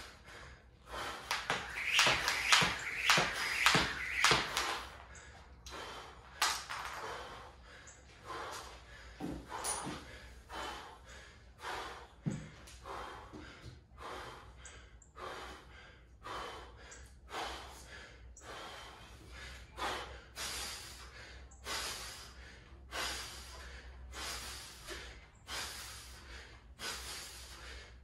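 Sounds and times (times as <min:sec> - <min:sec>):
man breathing hard in rasping gasps: 0:00.0 - 0:01.4, 0:05.1 - 0:28.0.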